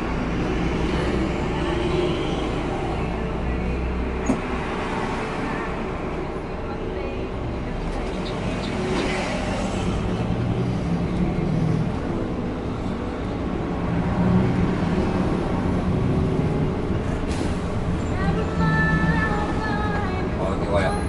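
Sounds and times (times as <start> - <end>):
bus engine drone: 0.0 - 21.0
road and tyre noise: 0.0 - 21.0.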